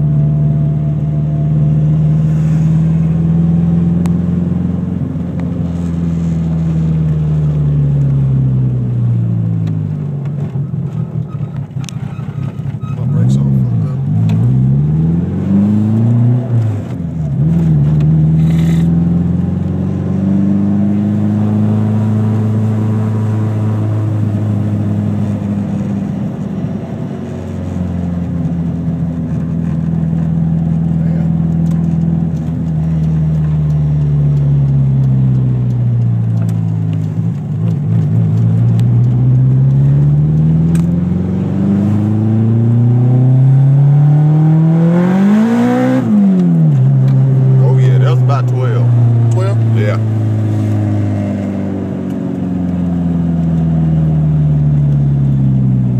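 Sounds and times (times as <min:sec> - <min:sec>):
turbocharged car engine under load: 0:00.0 - 0:55.9.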